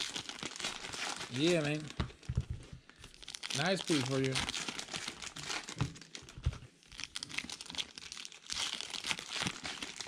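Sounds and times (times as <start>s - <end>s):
cards crinkling and rustling: 0.0s - 10.0s.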